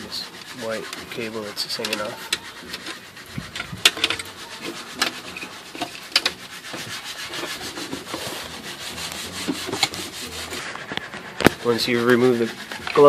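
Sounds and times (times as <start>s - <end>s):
plastic parts scraping: 0.0s - 13.0s.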